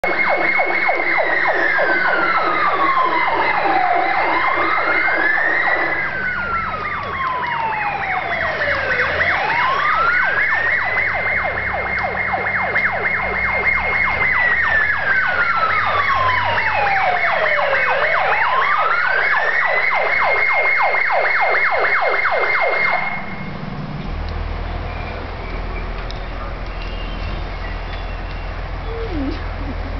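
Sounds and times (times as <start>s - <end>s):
fire engine siren wailing: 0.0s - 29.9s.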